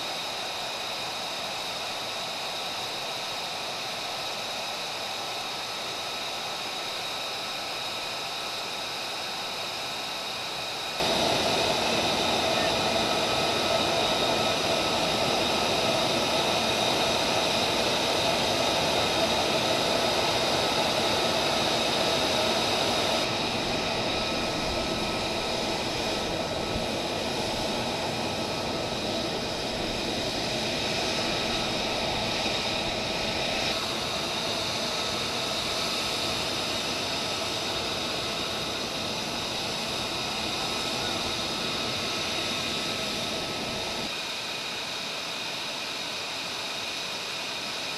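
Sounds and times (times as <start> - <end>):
jet engine idling: 0.0 - 44.6.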